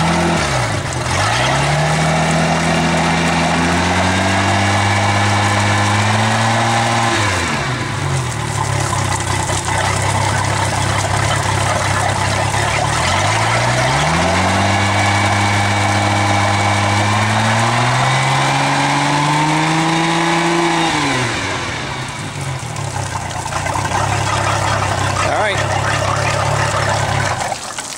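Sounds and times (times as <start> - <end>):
boat engine revving: 0.0 - 27.8.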